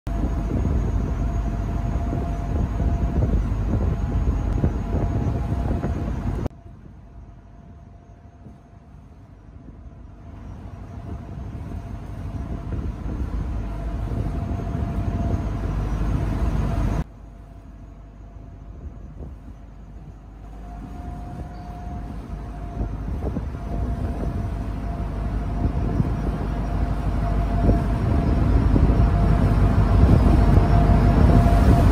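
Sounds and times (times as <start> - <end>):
ferry engine noise: 0.0 - 31.9
wind rumble on microphone: 0.1 - 17.1, 18.5 - 31.9
faint steady whine: 0.1 - 31.9.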